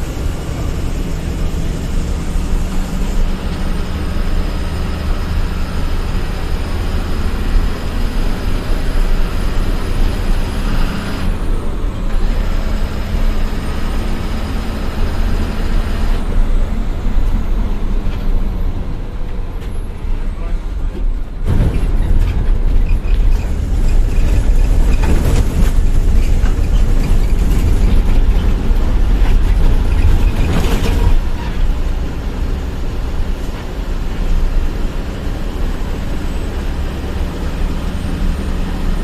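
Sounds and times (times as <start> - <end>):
bus engine drone: 0.0 - 39.0
road rumble: 0.0 - 39.0.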